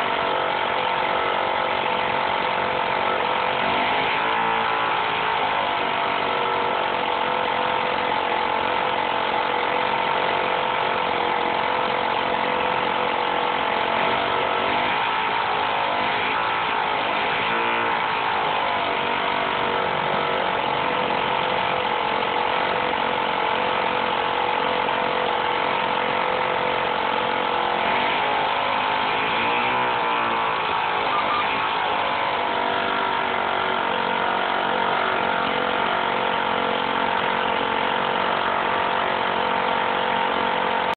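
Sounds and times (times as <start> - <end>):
model aircraft engine running: 0.0 - 40.9.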